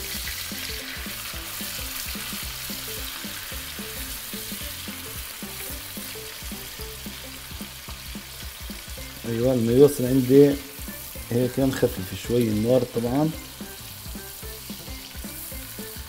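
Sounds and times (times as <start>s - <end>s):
nuts sizzling in a frying pan: 0.0s - 16.0s.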